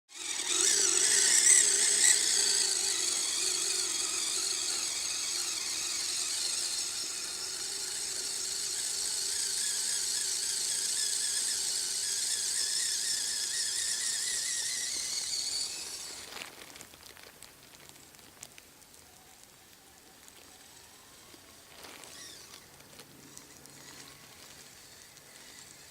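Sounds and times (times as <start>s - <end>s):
electric motor and gear whine: 0.1s - 16.4s, 20.2s - 25.9s.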